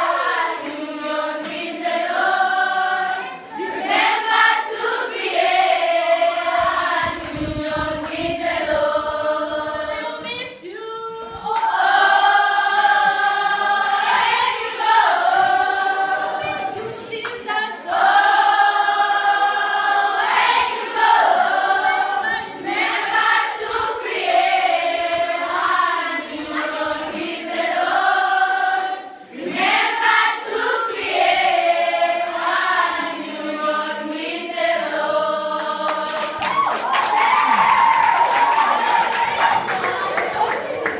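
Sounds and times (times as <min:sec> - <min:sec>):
girls choir singing unaccompanied: 0:00.0 - 0:40.9.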